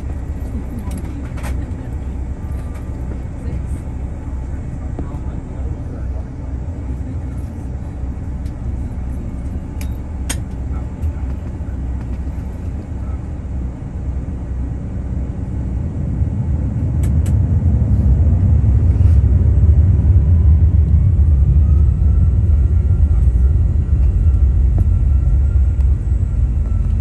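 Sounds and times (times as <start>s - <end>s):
jet engines rumbling: 0.0s - 27.0s
faint rising whine: 2.0s - 27.0s.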